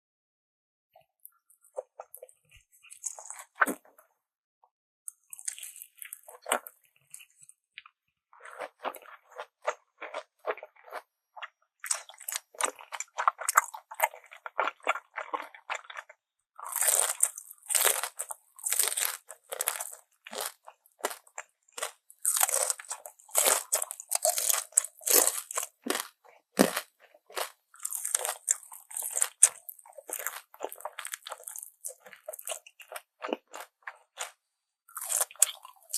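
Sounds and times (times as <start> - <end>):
crunching and chewing food: 1.0 - 4.1, 5.1 - 35.9.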